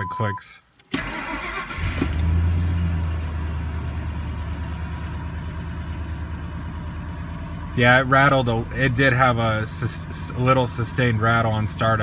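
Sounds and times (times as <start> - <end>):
car engine cold start and idle: 0.0 - 12.0.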